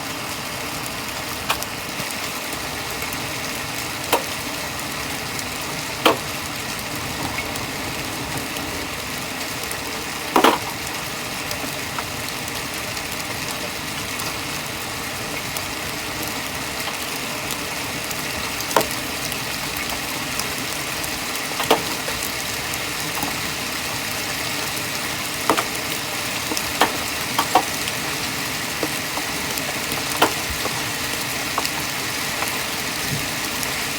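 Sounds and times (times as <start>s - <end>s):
hail hissing: 0.0s - 33.9s.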